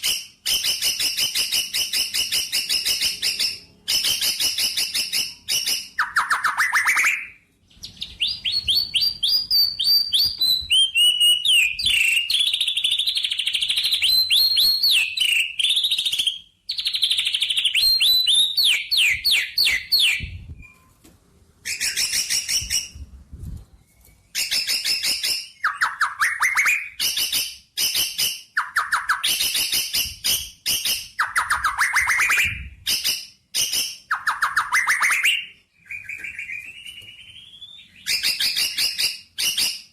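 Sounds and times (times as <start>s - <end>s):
small birds chirping and trilling: 0.0s - 20.9s, 23.8s - 39.9s.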